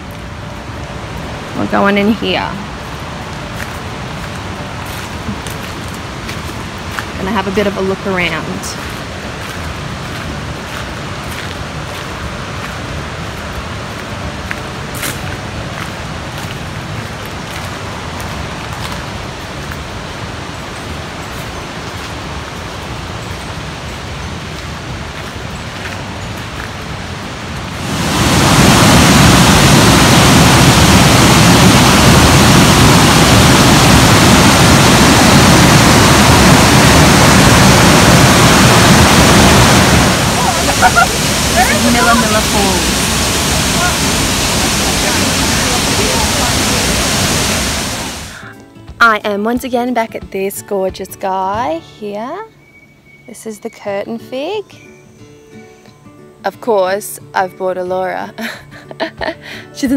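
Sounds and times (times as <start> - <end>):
waterfall rushing: 0.0 - 48.5.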